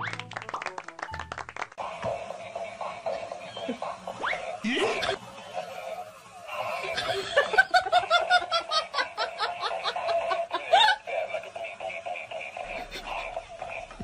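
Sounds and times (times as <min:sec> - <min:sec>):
person laughing in rapid bursts: 0:01.8 - 0:14.0.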